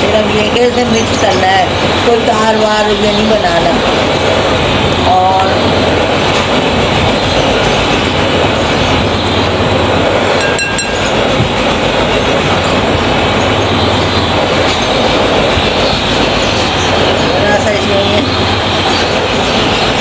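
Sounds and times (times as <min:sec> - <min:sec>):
sugar water rumbling in a wok: 0:00.0 - 0:20.0.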